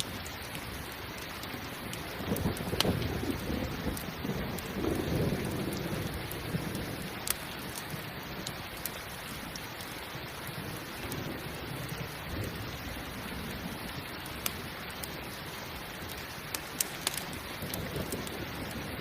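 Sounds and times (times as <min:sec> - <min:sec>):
campfire crackling: 0:00.0 - 0:19.0
steady rain: 0:00.0 - 0:19.0
thunder rumbling: 0:02.0 - 0:09.3, 0:10.1 - 0:19.0.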